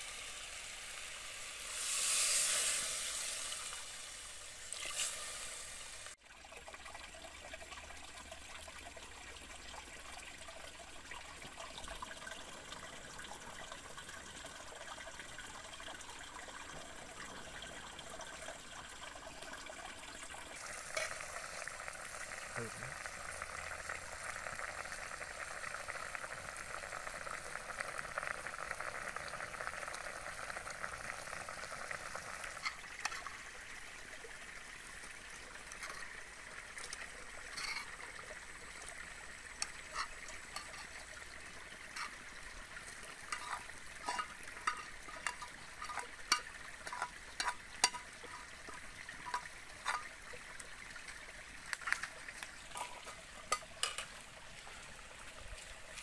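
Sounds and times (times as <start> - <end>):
soup boiling: 0.0 - 56.0.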